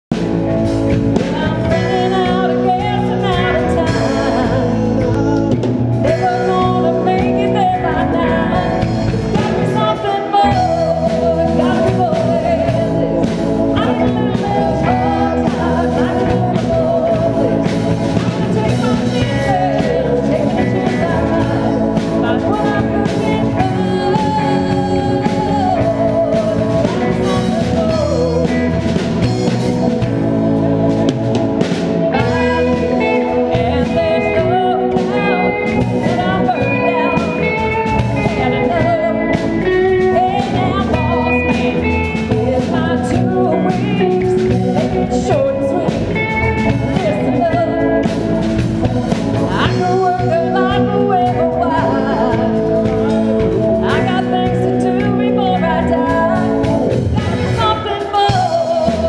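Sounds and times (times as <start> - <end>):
live band playing: 0.0 - 59.0
woman singing: 0.2 - 59.0.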